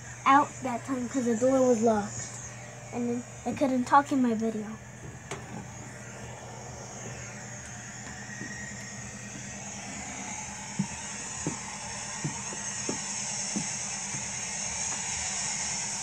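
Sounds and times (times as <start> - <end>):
diesel locomotive drone: 0.0 - 16.0.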